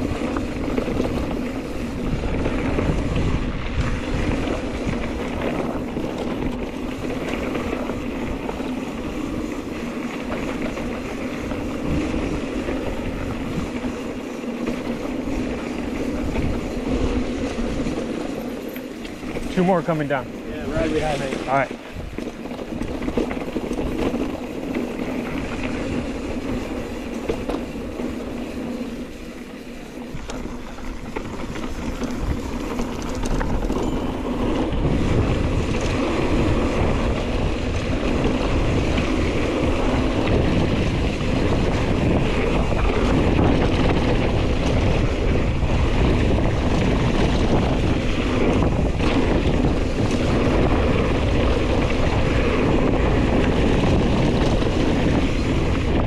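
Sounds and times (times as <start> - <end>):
bike tyres rolling on dirt: 0.0 - 56.0
wind rushing over microphone: 0.0 - 56.0.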